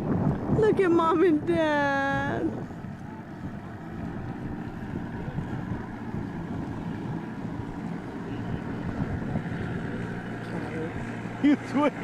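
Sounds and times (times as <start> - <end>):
distant outboard motor droning: 0.0 - 12.0
wind on microphone: 0.0 - 12.0.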